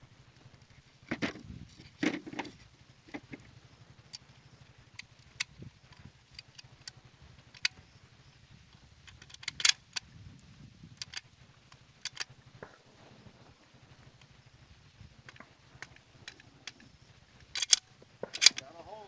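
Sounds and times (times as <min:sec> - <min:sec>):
low steady hum: 0:00.0 - 0:19.0
sharp clicks and metallic clinks: 0:00.4 - 0:12.8, 0:14.0 - 0:19.0.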